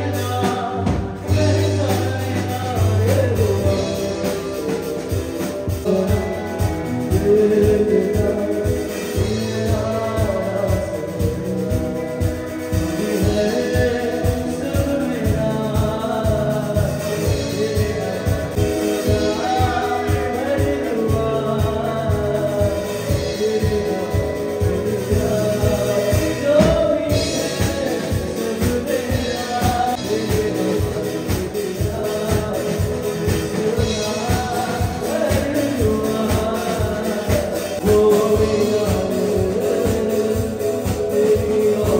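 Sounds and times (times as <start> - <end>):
drum kit beat: 0.0 - 41.9
electric guitar: 0.0 - 41.9
keyboard: 0.0 - 41.9
man singing: 0.0 - 41.9.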